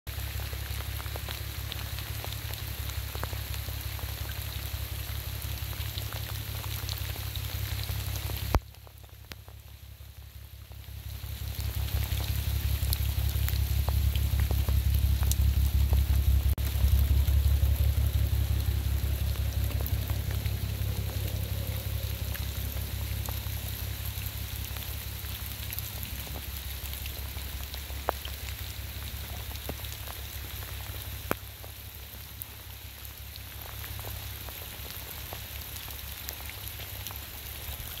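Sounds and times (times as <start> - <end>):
water rushing: 0.1 - 37.9.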